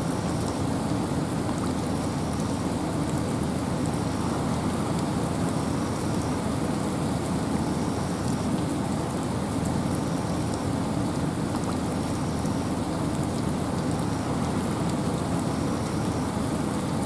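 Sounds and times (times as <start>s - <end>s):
rain hiss: 0.0s - 17.0s
raindrops ticking: 0.2s - 16.7s.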